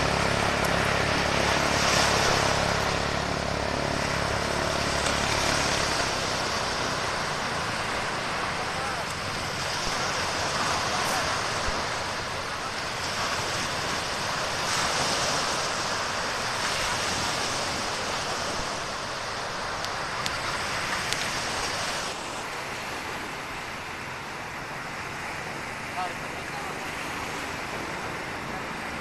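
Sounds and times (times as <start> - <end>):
waves washing onto beach: 0.0 - 29.0.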